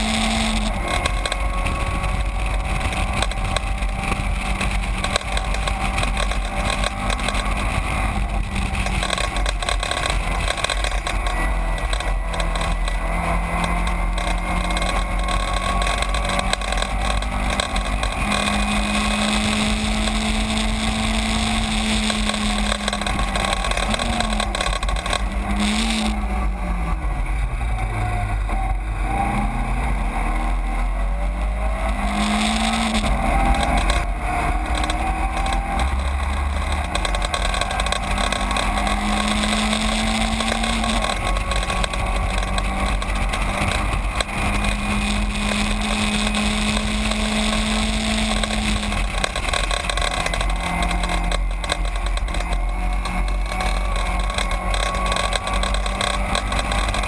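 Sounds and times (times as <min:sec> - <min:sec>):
race car engine at high revs: 0:00.0 - 0:57.0
wind and road noise: 0:00.0 - 0:57.0.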